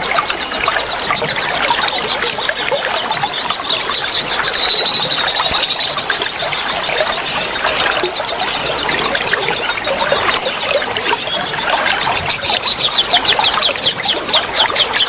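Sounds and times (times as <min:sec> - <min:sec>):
small birds chirping: 0:00.0 - 0:15.0
stream water trickling: 0:00.0 - 0:15.0.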